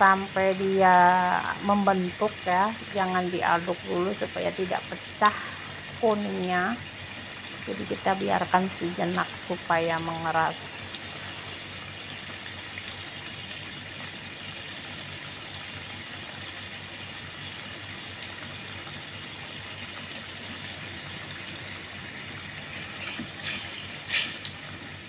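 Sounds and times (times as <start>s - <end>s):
sardines bubbling in a frying pan: 0.0s - 25.0s.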